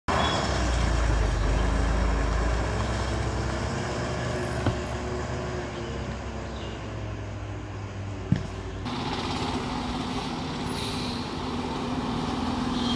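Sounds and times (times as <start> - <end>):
truck engine droning: 0.1 - 12.9.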